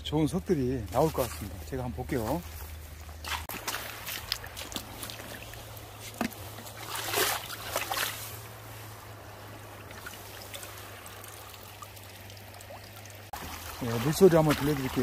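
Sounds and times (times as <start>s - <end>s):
stream trickling over pebbles: 0.2s - 15.0s.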